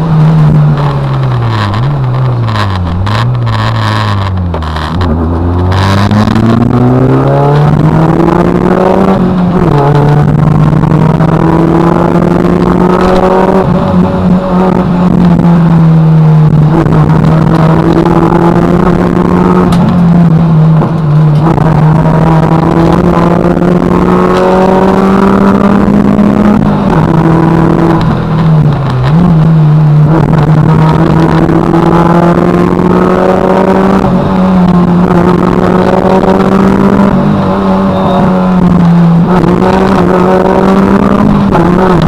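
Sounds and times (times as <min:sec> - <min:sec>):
rally car engine at high revs: 0:00.0 - 0:42.0.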